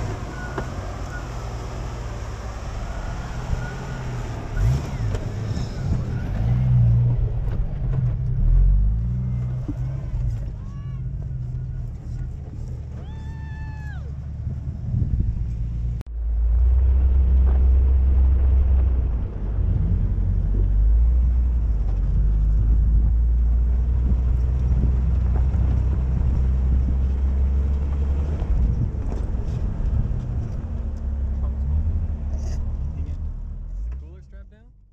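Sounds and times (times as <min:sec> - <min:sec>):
vehicle driving over dirt: 0:00.0 - 0:34.3.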